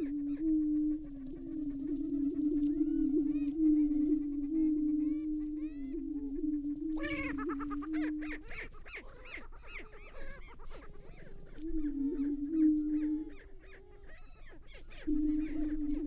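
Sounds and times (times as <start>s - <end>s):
bird squawk: 0.0s - 16.0s
birds booming low hoot: 0.0s - 16.0s
birds cackling calls: 0.0s - 16.0s.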